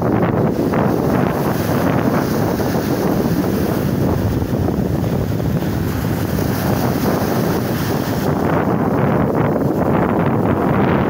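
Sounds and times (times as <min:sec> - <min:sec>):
waves breaking on shore: 0:00.0 - 0:11.0
wind buffeting microphone: 0:00.0 - 0:11.0.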